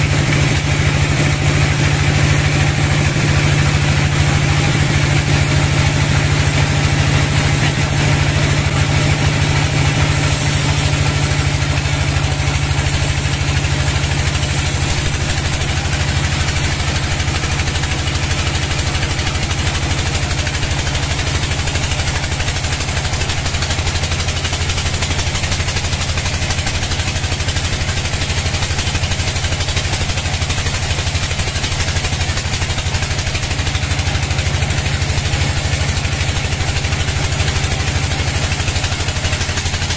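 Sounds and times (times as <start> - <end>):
bandsaw sawing through log: 0.0 - 39.9.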